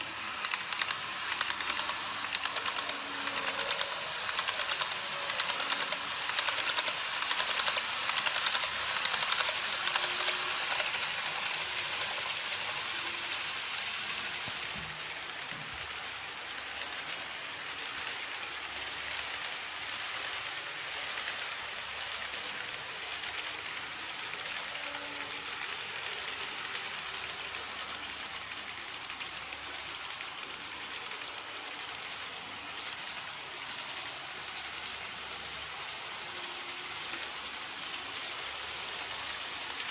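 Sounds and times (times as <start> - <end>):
model train wheels clicking on rails: 0.0 - 39.9.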